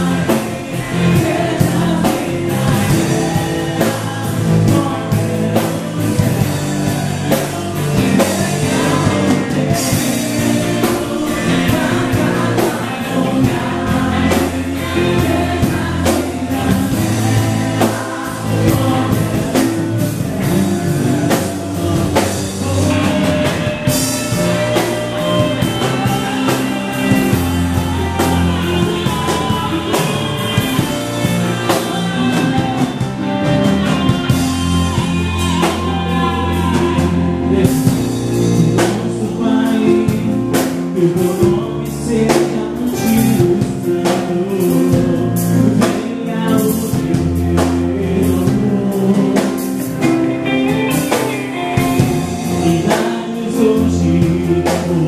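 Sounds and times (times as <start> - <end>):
drum kit: 0.0 - 55.0
electric guitars: 0.0 - 55.0
gospel band playing: 0.0 - 55.0
man and woman singing: 0.0 - 55.0.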